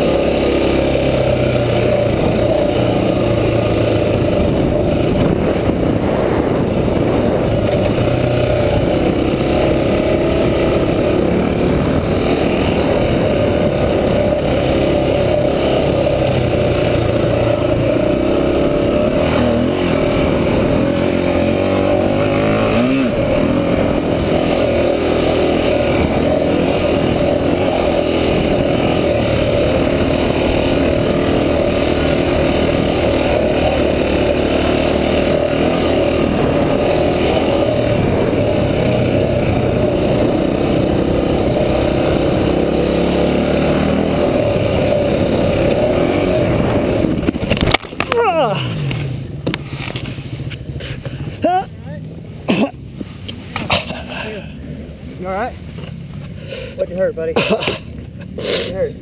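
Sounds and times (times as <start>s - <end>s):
dirt bike engine running: 0.0s - 58.4s.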